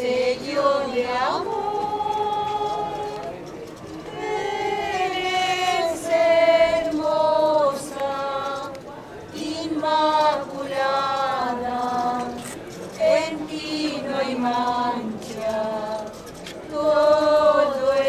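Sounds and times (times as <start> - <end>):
nuns singing a hymn: 0.0 - 3.4, 4.1 - 18.0.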